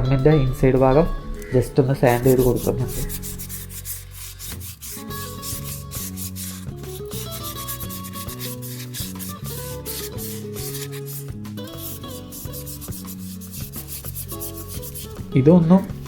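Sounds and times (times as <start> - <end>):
background music: 0.0 - 16.0
sandpaper rubbing metal: 1.3 - 16.0.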